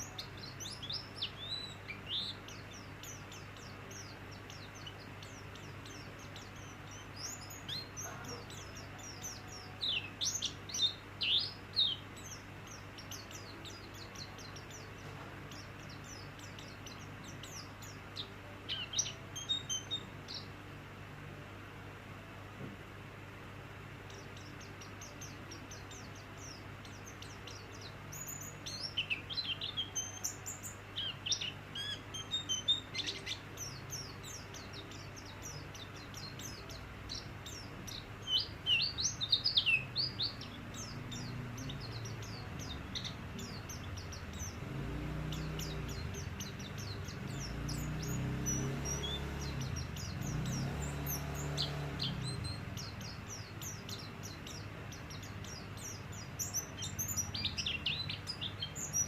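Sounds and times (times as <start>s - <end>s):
bird chirping and twittering: 0.0s - 20.8s, 23.7s - 59.0s.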